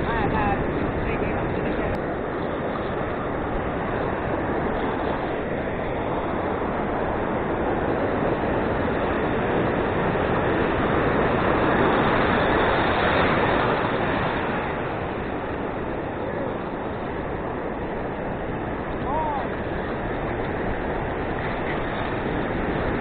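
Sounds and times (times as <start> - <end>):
sea surf breaking on beach: 0.0 - 23.0.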